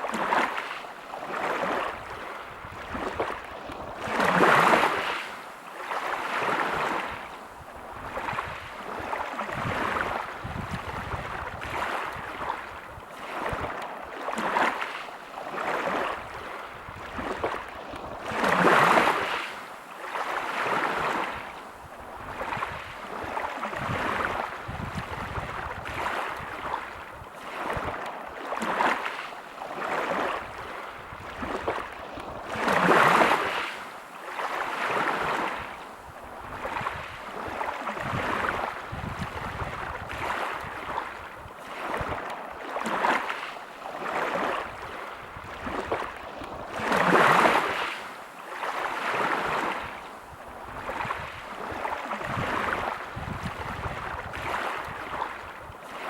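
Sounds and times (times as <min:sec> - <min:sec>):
waves breaking on pebble beach: 0:00.0 - 0:21.5, 0:22.3 - 0:56.0.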